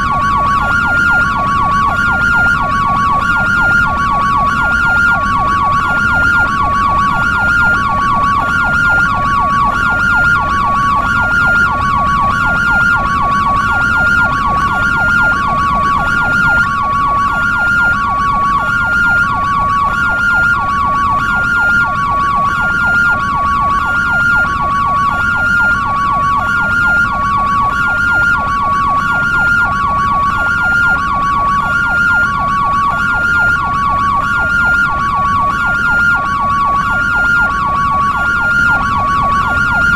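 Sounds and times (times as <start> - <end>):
ambulance siren hi-lo: 0.0 - 39.9
siren yelp sweeping: 0.0 - 39.9.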